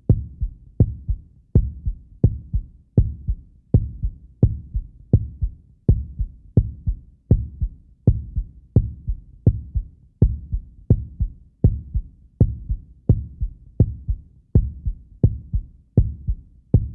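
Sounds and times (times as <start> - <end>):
heartbeat thumps: 0.0 - 16.9.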